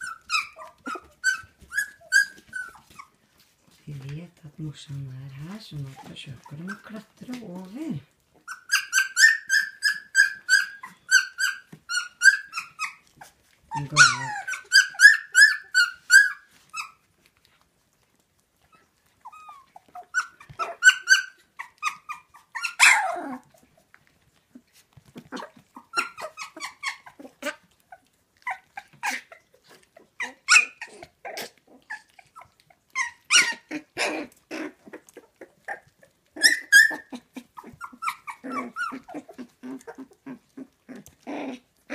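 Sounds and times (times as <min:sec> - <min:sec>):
puppies whimpering: 0:00.0 - 0:03.4, 0:04.9 - 0:17.2, 0:18.6 - 0:41.9
puppies whining: 0:00.0 - 0:03.6, 0:05.3 - 0:41.9.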